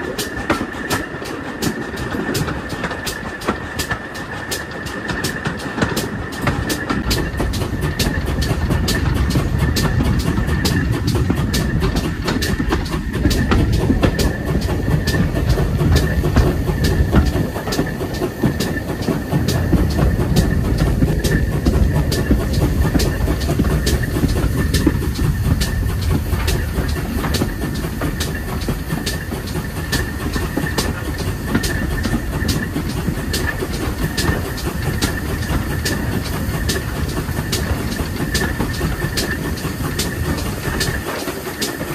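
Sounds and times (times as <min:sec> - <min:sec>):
sharp rail clicks: 0:00.0 - 0:41.9
train rumbling on rails: 0:00.0 - 0:41.9.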